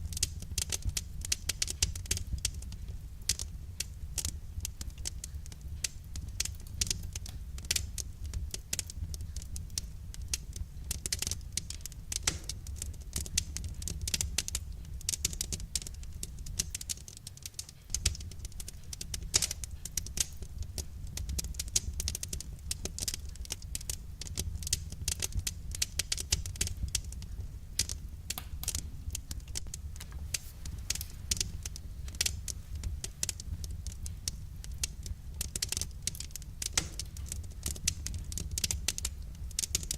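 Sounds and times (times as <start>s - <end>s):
low rumble of burning logs: 0.0s - 39.9s
wood fire snapping and popping: 0.0s - 39.9s.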